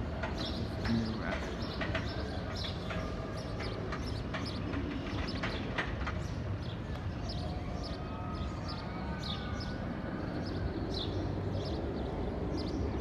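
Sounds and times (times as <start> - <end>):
roller coaster rumbling on track: 0.0 - 13.0.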